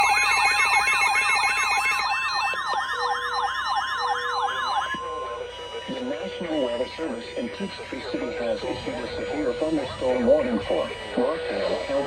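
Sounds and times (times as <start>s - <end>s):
steady alert tone: 0.0s - 12.0s
warbling alert tone: 0.0s - 12.0s.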